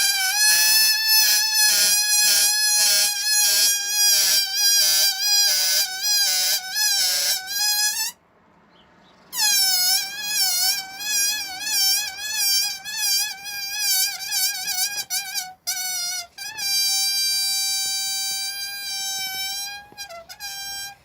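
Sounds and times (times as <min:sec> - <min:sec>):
air squealing from balloon neck: 0:00.0 - 0:08.2, 0:09.3 - 0:21.0.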